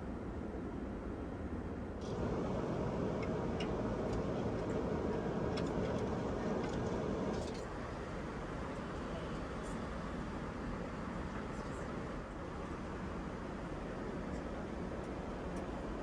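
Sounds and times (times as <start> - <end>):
airplane cabin noise: 2.0 - 16.0.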